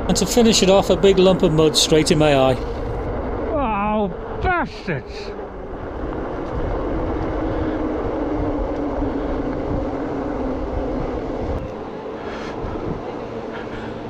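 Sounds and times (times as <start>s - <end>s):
bike tyres and drive humming: 0.0s - 14.0s
wind rushing over microphone: 0.0s - 14.0s.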